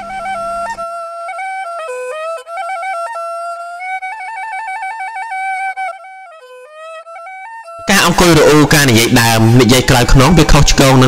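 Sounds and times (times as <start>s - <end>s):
solo woodwind melody with trills: 0.0s - 8.9s.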